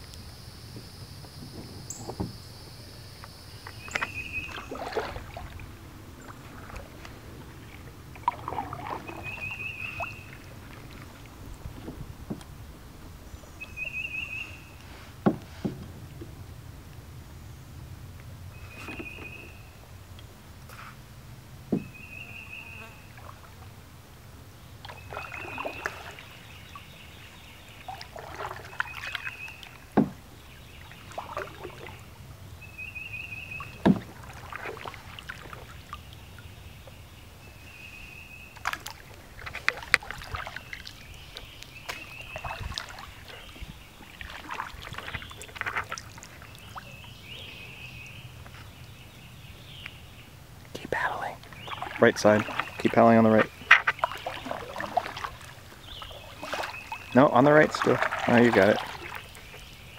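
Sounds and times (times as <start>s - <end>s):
paddles splashing in water: 3.3s - 16.6s, 18.2s - 19.8s, 21.6s - 59.9s.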